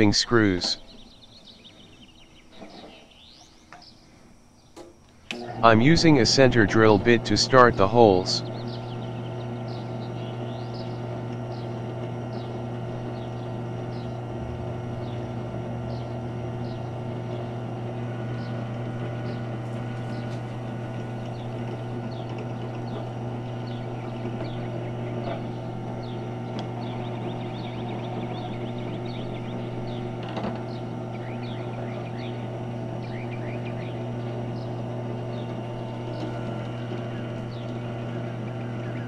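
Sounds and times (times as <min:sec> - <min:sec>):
drill press running: 0:05.2 - 0:39.0.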